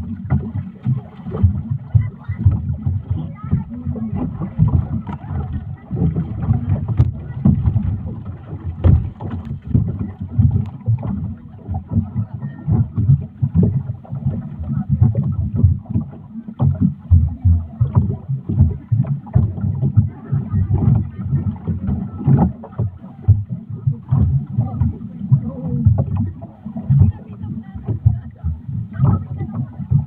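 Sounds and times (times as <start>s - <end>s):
boat engine rumbling on water: 0.0s - 30.0s
wind buffeting microphone: 0.0s - 30.0s.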